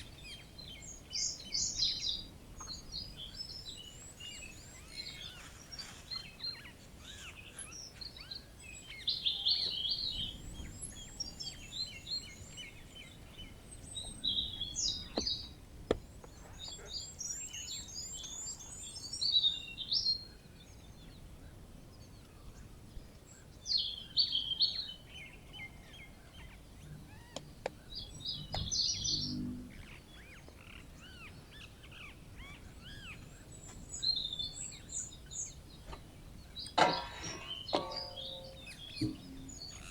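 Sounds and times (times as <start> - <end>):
birds chirping and singing: 0.0 - 22.0, 22.6 - 39.9.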